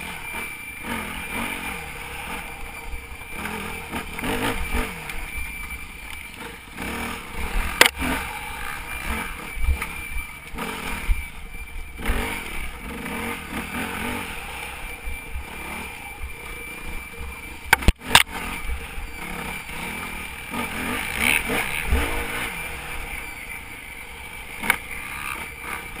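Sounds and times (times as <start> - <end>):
high whistle: 0.0 - 26.0
motorbike engine revving: 0.0 - 26.0.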